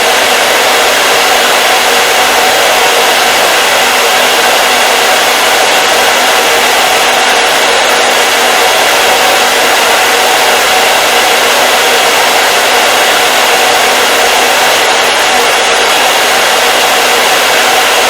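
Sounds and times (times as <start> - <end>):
hair dryer running: 0.0 - 18.0.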